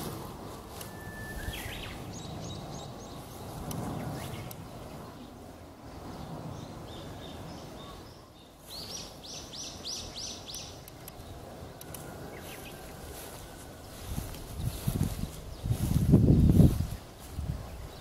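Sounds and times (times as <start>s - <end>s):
low outdoor background noise: 0.0s - 18.0s.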